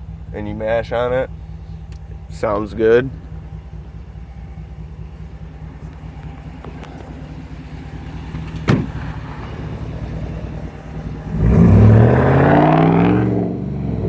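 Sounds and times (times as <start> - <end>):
pickup truck engine rumbling: 0.0 - 14.0.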